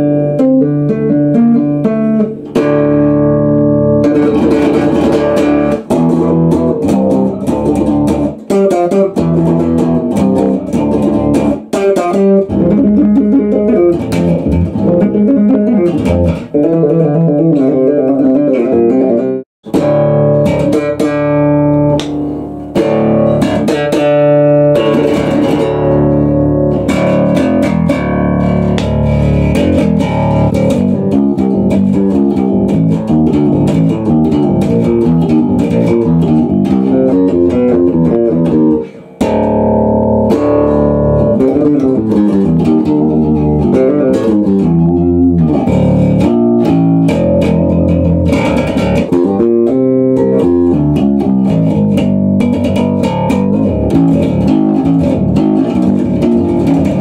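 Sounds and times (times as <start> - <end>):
electric bass playing fast: 0.0 - 57.0.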